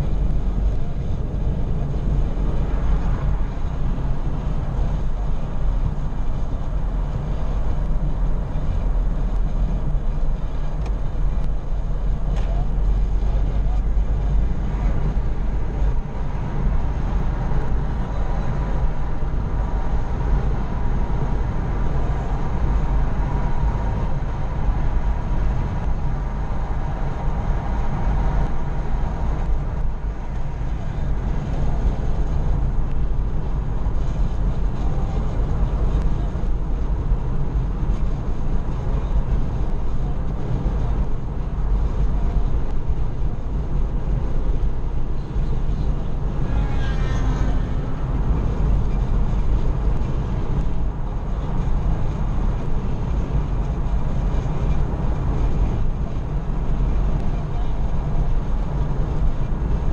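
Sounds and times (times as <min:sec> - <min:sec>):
car road noise from inside: 0:00.0 - 0:59.9.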